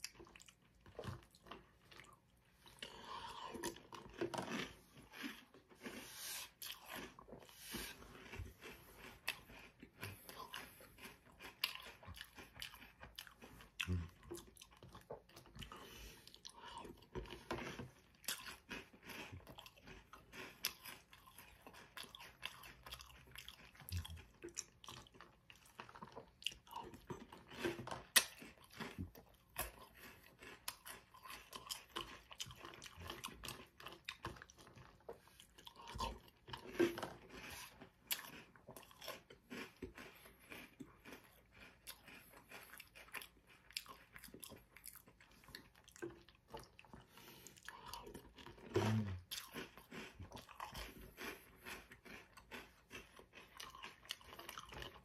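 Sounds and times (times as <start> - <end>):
wet cereal crunching: 0.0 - 55.0.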